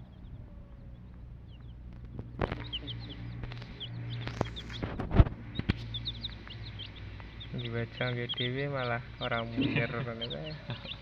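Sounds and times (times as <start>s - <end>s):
birds chirping high peeps: 0.0s - 11.0s.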